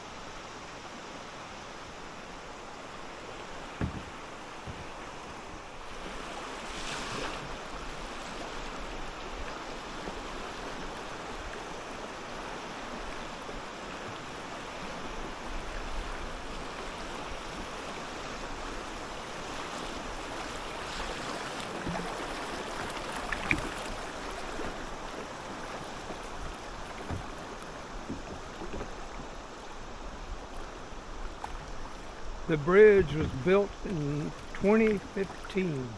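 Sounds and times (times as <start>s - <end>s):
river water flowing around kayak: 0.0s - 35.9s
water splashes: 0.9s - 35.9s.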